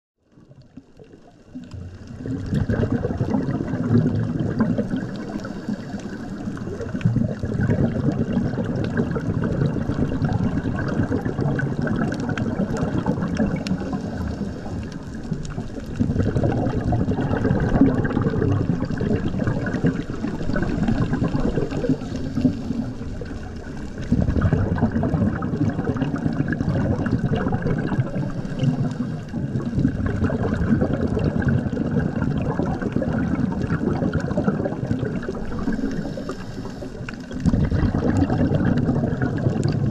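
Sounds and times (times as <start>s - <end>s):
muffled underwater water rush: 0.2s - 39.9s.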